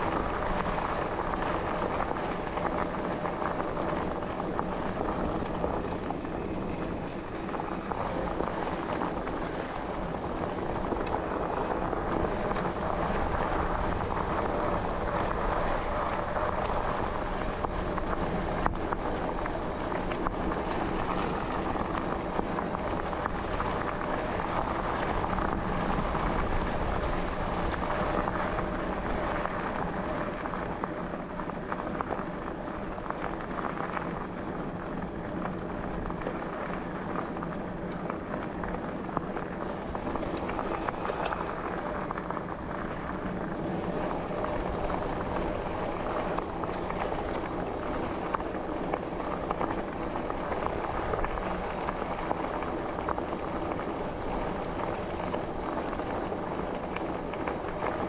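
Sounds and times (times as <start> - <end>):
bike tyres rolling over ground: 0.0 - 58.0
faint steady hum: 0.0 - 58.0.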